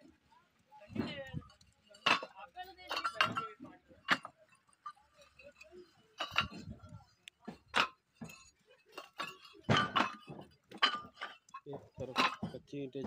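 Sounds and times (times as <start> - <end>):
bricks clinking together: 0.9 - 13.0.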